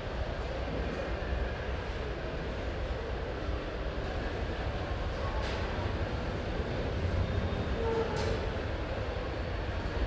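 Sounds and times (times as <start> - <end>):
factory machinery rumble and hum: 0.0 - 10.0.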